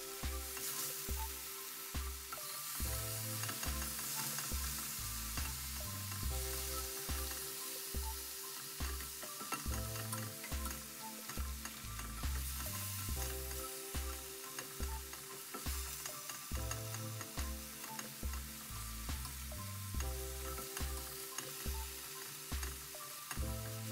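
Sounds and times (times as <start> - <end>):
meat sizzling in hot oil: 0.0 - 23.9
plastic spatula stirring in pan: 0.1 - 23.9.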